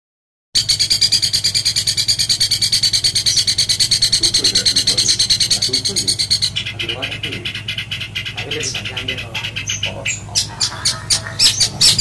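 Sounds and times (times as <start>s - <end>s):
bird rasping chatter: 0.6s - 12.0s.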